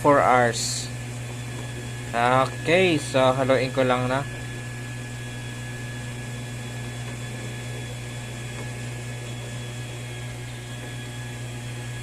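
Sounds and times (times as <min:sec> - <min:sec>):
mini washing machine motor humming: 0:00.0 - 0:12.0.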